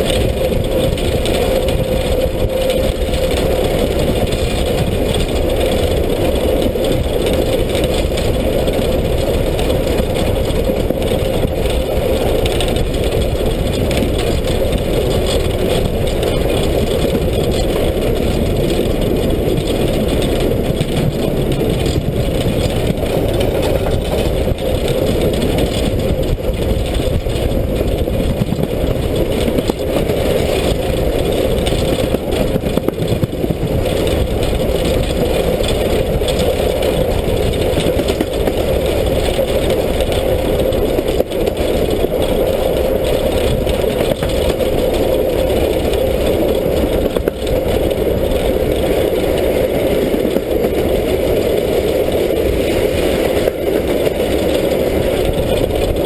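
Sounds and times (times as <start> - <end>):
steam train rumbling: 0.0 - 56.0.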